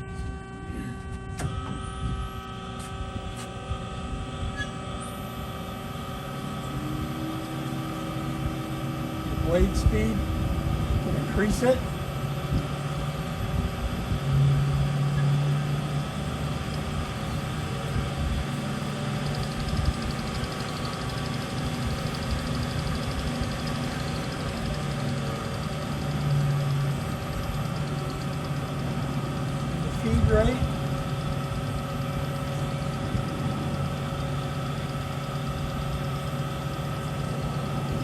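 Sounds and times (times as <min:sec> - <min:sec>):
band saw humming: 0:00.0 - 0:38.0.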